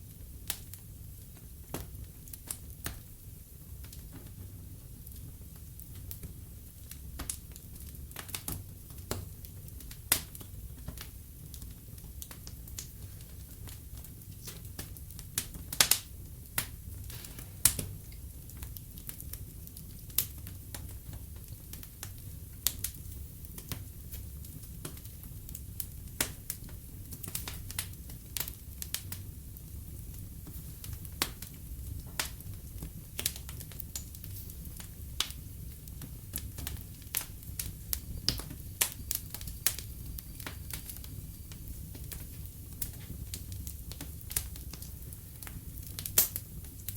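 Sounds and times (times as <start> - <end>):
logs crackling in fireplace: 0.0 - 46.9
low rumble of fire: 0.0 - 46.9.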